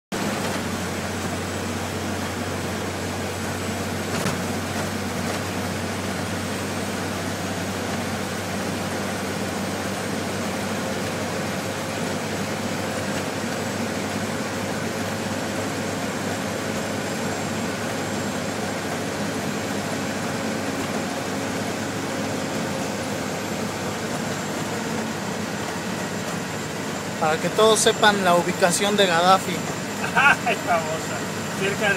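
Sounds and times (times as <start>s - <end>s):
road and wind noise: 0.1s - 31.9s
truck engine drone: 0.1s - 31.9s.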